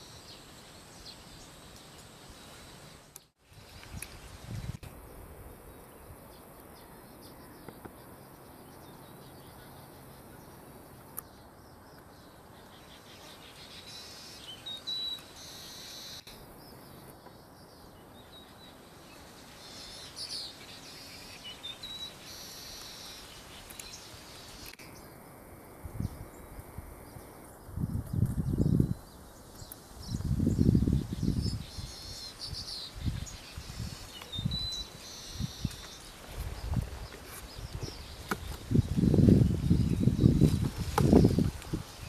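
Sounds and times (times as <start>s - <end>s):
birds chirping: 0.0s - 25.3s, 25.9s - 42.0s
steady background hiss: 0.0s - 42.0s.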